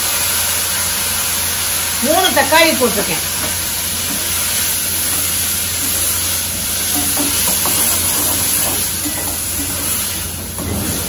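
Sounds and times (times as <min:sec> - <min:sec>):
tomatoes sizzling in oil: 0:00.0 - 0:11.0.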